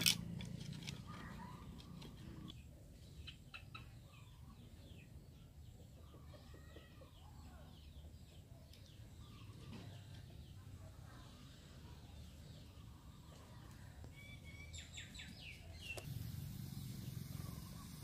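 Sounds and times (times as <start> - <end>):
chickens clucking and chirping: 1.1 - 18.0.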